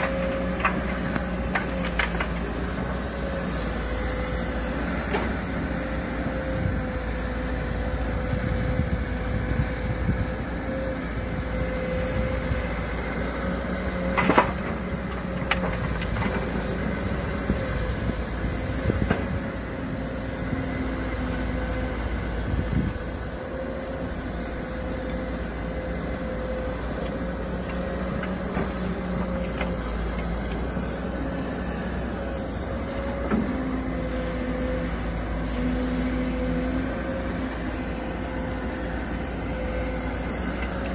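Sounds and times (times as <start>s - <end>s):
excavator diesel engine whining: 0.0s - 40.9s.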